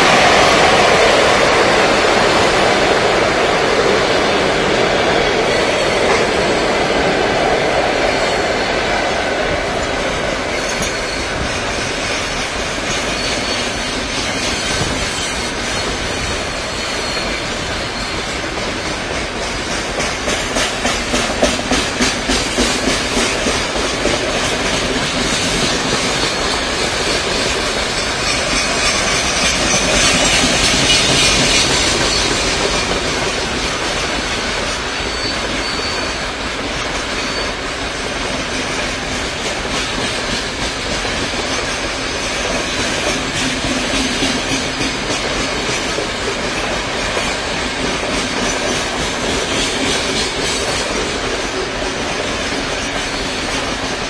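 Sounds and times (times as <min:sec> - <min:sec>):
high-pitched wheel-on-rail rush: 0:00.0 - 0:54.0
train wheels clattering over rail joints: 0:09.5 - 0:54.0.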